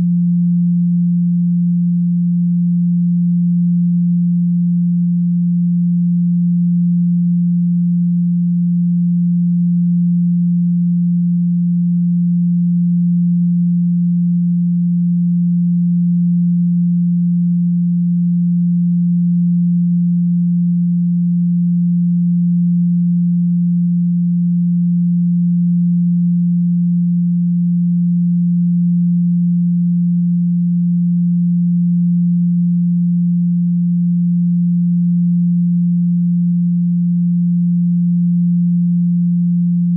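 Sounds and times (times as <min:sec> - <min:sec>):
low sine tone hum: 0:00.0 - 0:39.9.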